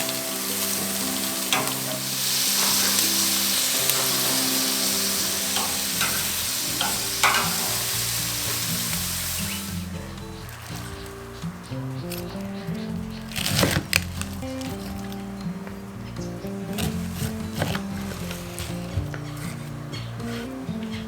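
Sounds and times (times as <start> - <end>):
chicken sizzling on a grill: 0.0 - 21.0
wood fire: 0.0 - 21.0.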